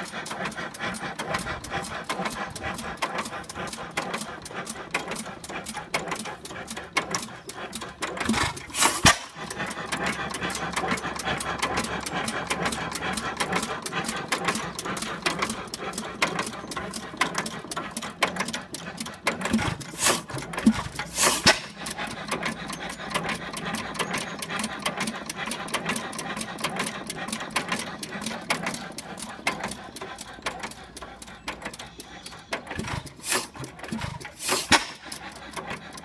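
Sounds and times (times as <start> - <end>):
gas engine clicking: 0.0 - 36.0.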